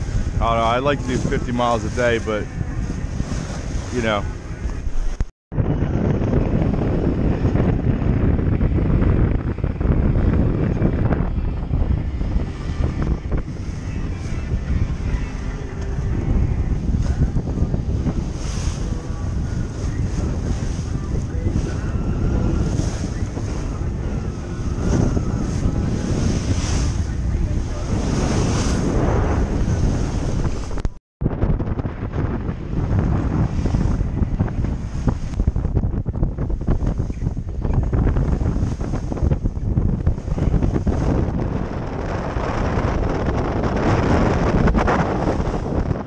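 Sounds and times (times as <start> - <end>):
waves breaking against bow: 0.0 - 5.3, 9.0 - 46.0
choppy water slapping hull: 0.0 - 46.0
wind buffeting microphone: 0.0 - 46.0.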